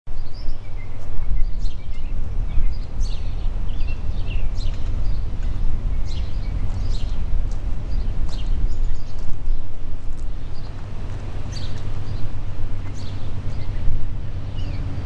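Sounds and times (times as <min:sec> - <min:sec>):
songbirds chirping: 0:00.1 - 0:15.0
unsteady low rumble: 0:00.1 - 0:15.0.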